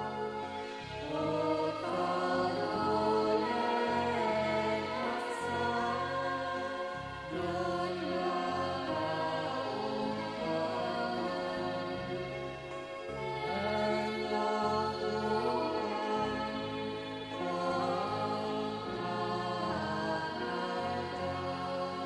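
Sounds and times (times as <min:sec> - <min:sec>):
choir singing held notes: 0:00.0 - 0:22.0
slow background music: 0:00.0 - 0:22.0.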